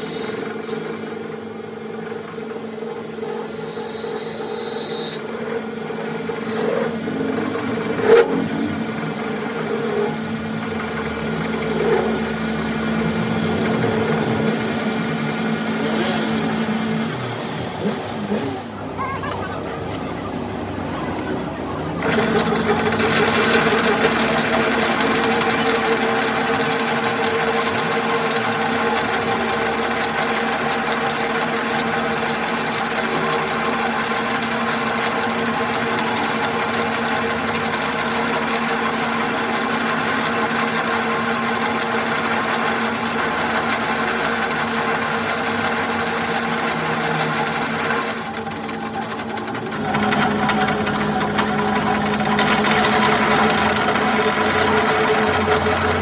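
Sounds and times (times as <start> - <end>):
machine humming and rattling: 0.0 - 56.0.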